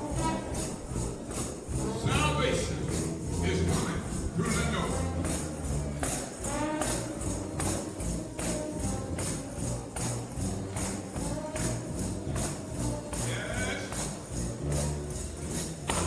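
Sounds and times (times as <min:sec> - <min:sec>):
tambourine jingling: 0:00.0 - 0:16.0
trombone band playing: 0:00.0 - 0:16.0.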